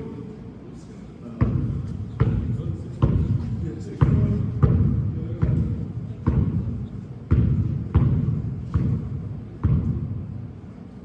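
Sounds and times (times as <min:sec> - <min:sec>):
basketball bouncing on a court: 0:01.4 - 0:10.6.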